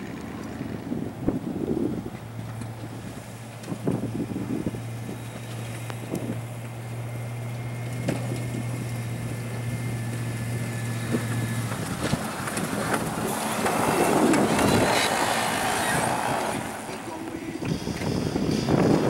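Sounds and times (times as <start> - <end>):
pickup truck engine: 0.0 - 19.0
plow blade scraping snow: 0.0 - 19.0.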